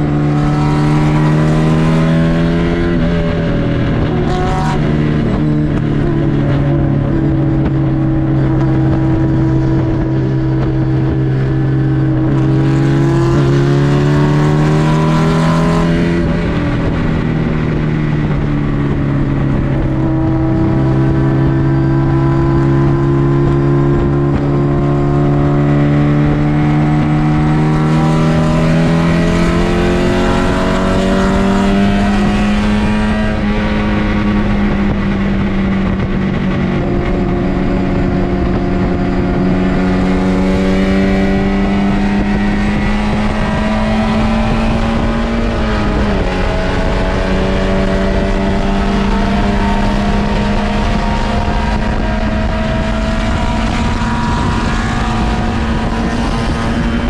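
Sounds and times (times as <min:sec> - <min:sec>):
race car engine revving: 0:00.0 - 0:57.0
wind and road noise: 0:00.0 - 0:57.0.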